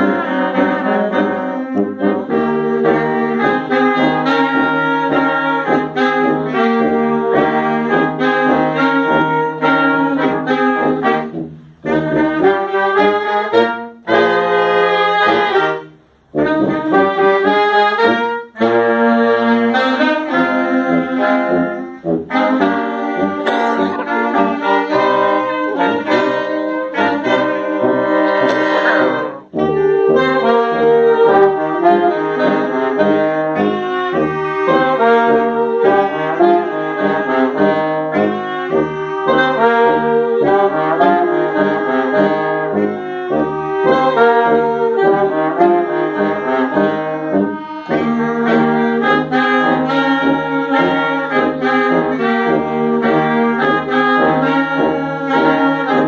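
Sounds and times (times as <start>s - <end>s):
wind band playing: 0.0s - 56.0s.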